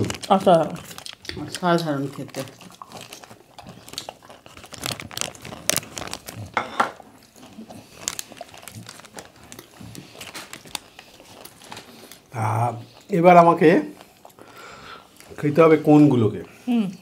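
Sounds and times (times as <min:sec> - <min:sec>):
plastic wrapper crinkling: 0:00.0 - 0:16.3.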